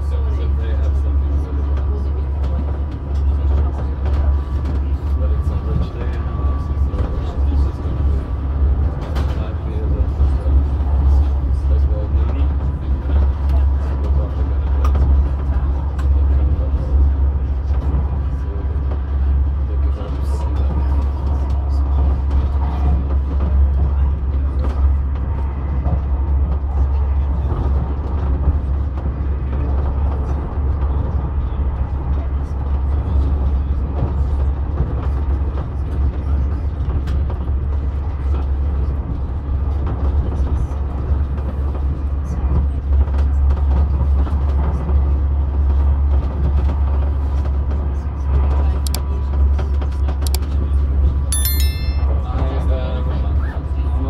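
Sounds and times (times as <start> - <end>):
train rumble inside carriage: 0.0 - 51.3.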